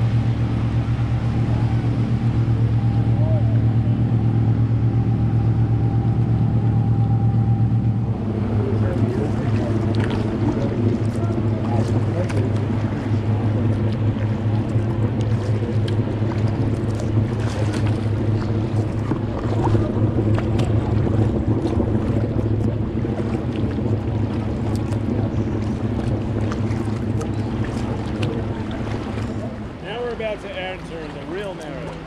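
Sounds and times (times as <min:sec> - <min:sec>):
boat engine humming: 0:00.0 - 0:32.0
kayak paddle splashes: 0:00.0 - 0:32.0
water noise: 0:00.0 - 0:32.0.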